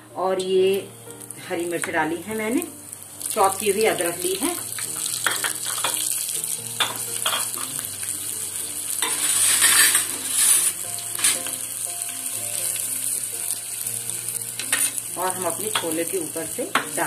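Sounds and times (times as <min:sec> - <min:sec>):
spices sizzling in hot oil: 0:00.2 - 0:17.0.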